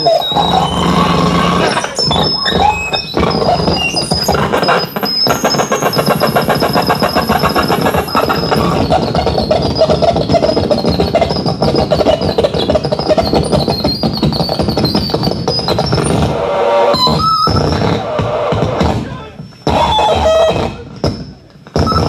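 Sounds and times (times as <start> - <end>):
thin high whine: 0.0 - 20.2
stuttering electronic drone: 0.0 - 22.0.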